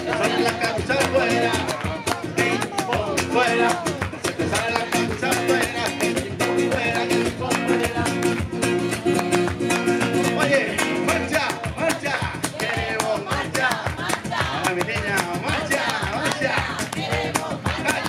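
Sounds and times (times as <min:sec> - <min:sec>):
man singing: 0:00.0 - 0:09.1, 0:09.9 - 0:13.9, 0:14.5 - 0:18.0
classical guitar strummed: 0:00.0 - 0:18.0.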